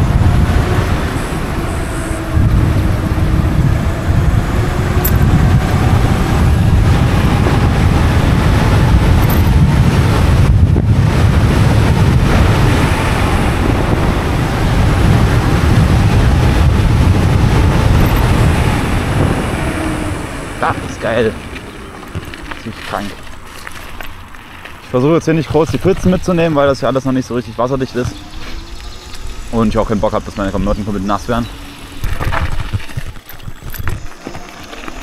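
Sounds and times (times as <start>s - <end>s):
electric motor whine: 0.0s - 22.6s, 27.6s - 35.0s
wind rumble on microphone: 0.0s - 35.0s.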